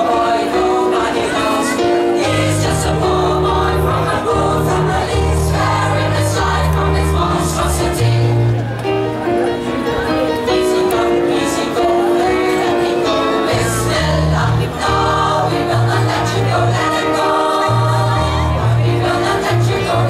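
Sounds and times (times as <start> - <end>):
choir singing in harmony: 0.0 - 8.7, 10.4 - 20.0
keyboard accompaniment: 0.0 - 20.0.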